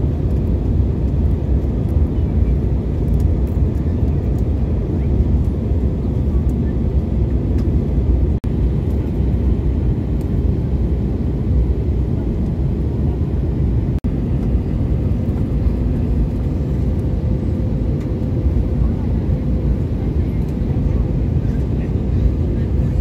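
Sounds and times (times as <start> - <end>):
jet engine and airflow rumble: 0.0 - 23.0.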